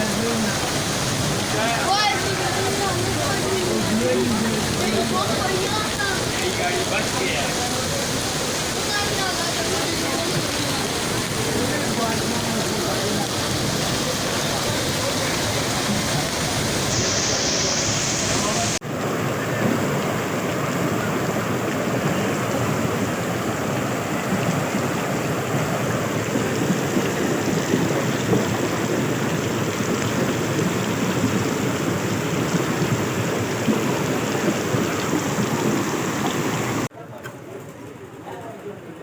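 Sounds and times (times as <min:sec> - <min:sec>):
loud rush of water: 0:00.0 - 0:36.9.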